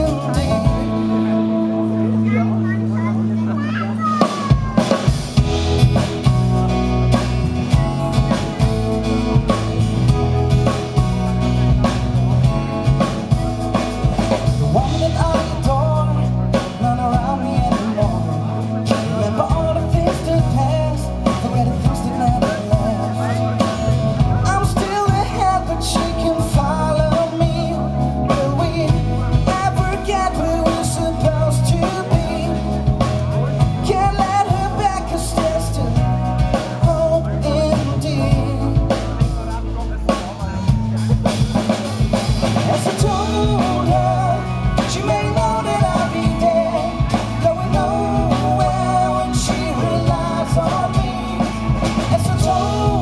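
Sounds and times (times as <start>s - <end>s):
person singing: 0.0s - 1.5s, 10.5s - 41.4s, 42.4s - 53.0s
acoustic guitar: 0.0s - 53.0s
drum kit: 0.0s - 53.0s
electric bass: 0.0s - 53.0s
keyboard: 0.0s - 53.0s.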